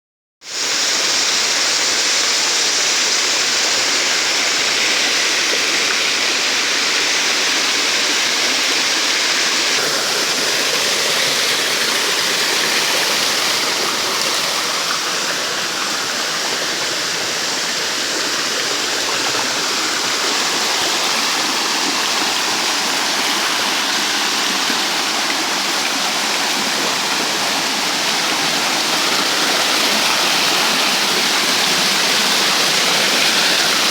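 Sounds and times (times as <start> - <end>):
rushing water: 0.5 - 33.9.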